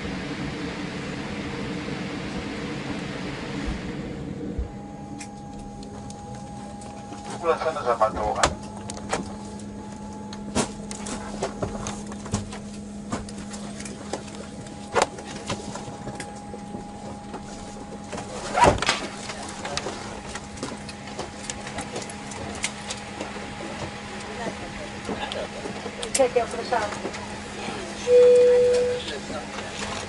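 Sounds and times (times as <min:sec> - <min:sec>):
aircraft cabin hum: 0:00.0 - 0:30.0.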